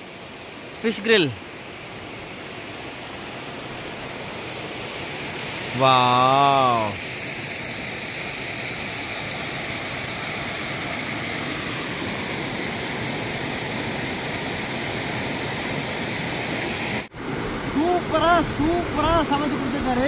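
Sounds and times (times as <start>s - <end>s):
waterfall over rocks: 0.0s - 20.0s.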